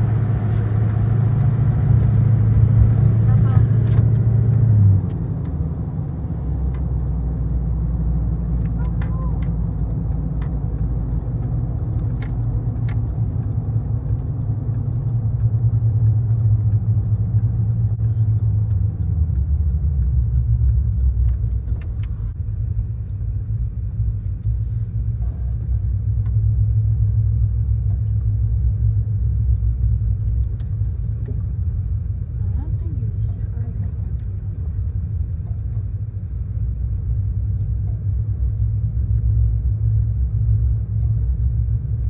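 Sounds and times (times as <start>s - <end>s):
car engine rumble: 0.0s - 42.0s
tyres on road: 0.0s - 42.0s.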